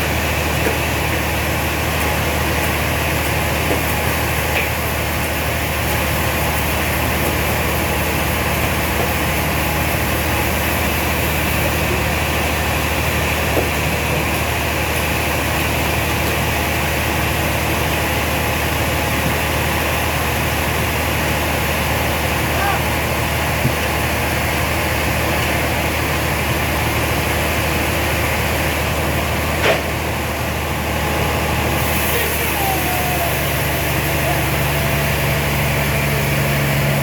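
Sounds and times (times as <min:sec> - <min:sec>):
sawmill machinery humming: 0:00.0 - 0:37.0.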